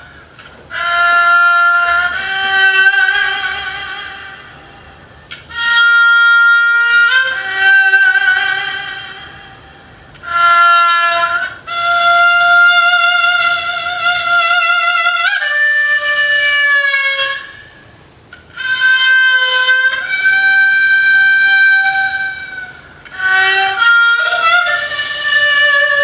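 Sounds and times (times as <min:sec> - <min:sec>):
bowed fiddle with sliding notes: 0:00.0 - 0:26.0.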